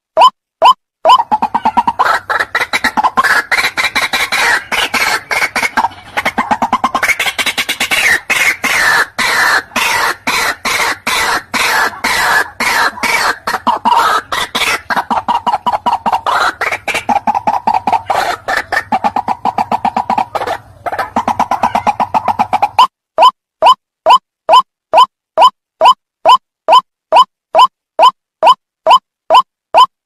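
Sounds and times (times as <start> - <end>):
waterhen harsh repeated calls: 0.2 - 29.9.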